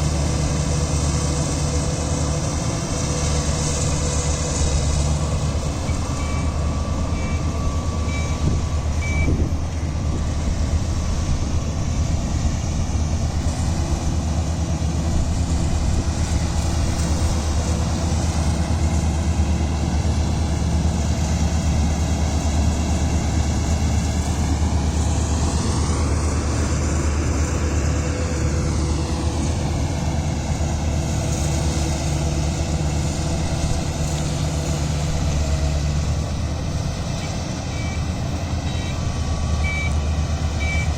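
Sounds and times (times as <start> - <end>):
combine harvester engine hum: 0.0 - 40.9
rush of threshing machinery: 0.0 - 40.9.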